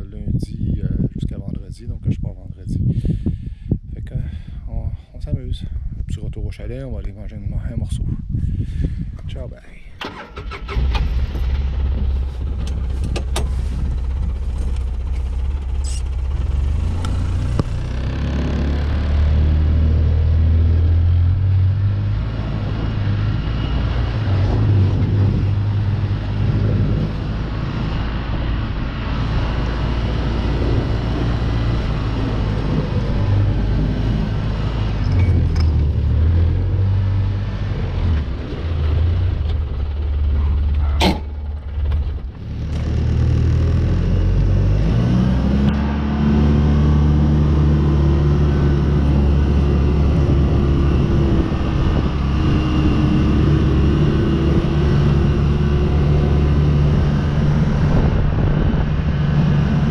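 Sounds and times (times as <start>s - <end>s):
vehicle engine running: 10.4s - 59.9s.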